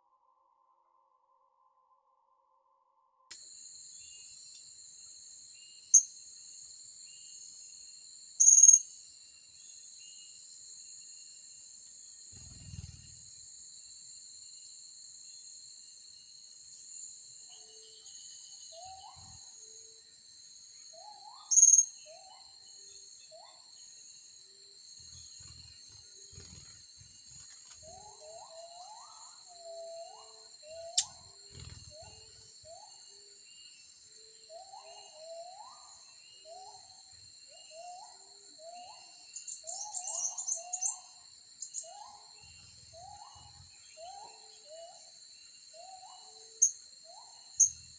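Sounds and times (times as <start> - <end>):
insects droning: 3.3 - 47.9.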